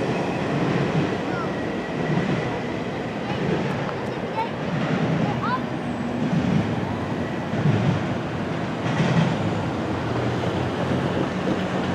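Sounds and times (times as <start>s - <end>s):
freight train wheels rumbling: 0.0s - 11.9s.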